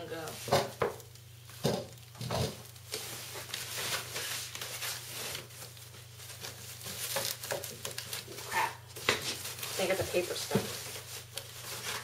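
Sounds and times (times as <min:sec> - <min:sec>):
plastic and cardboard rustling: 0:00.0 - 0:12.0.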